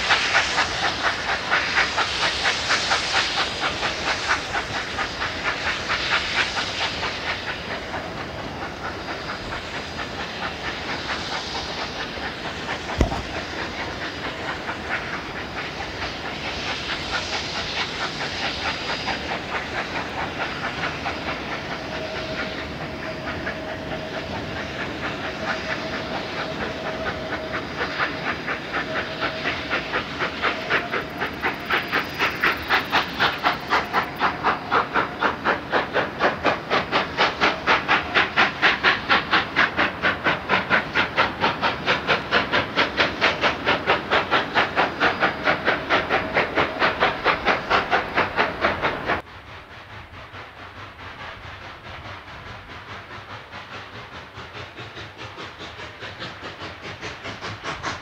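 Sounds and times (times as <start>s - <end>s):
steam locomotive exhaust chuffing: 0.0s - 58.0s.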